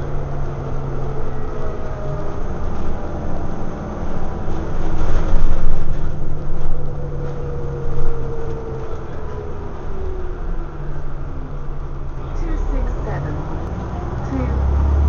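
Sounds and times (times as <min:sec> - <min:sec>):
bus diesel engine droning: 0:00.0 - 0:15.0
road noise: 0:00.0 - 0:15.0.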